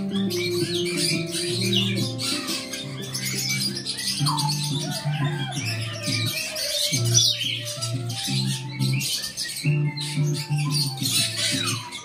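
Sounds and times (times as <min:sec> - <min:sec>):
background music: 0:00.0 - 0:12.0
small birds chirping: 0:00.0 - 0:12.0.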